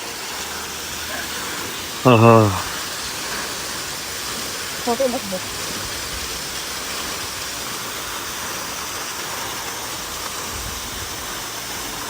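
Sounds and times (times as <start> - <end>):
small waterfall pouring and splashing: 0.0 - 12.0.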